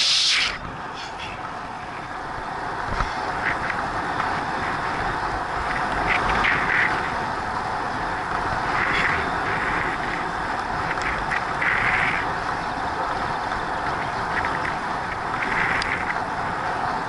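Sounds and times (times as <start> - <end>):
bicycle tyres rolling on asphalt: 0.0 - 17.0
wind on camera microphone: 0.0 - 17.0.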